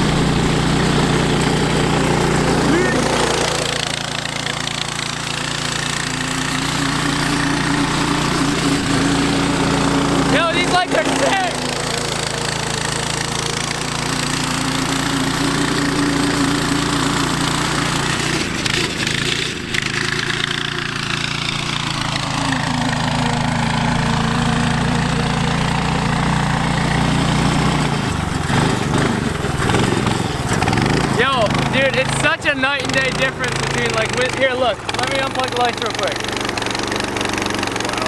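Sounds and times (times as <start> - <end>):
go-kart engine running: 0.0 - 38.0.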